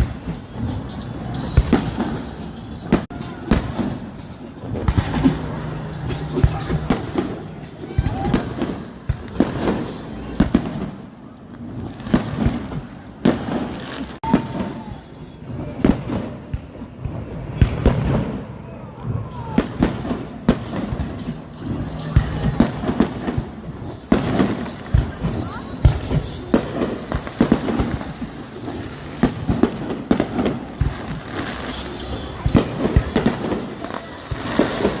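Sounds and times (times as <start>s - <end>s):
fireworks bangs and booms: 0.0s - 35.0s
music playing: 0.0s - 35.0s.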